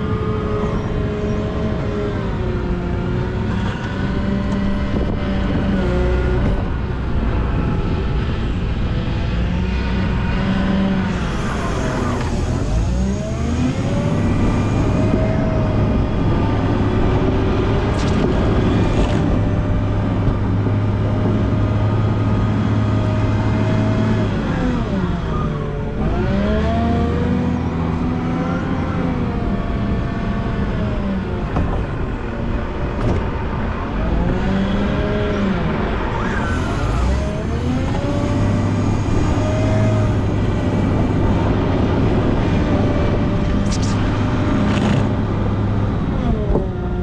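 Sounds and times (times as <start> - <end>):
diesel engine running under load: 0.0 - 47.0.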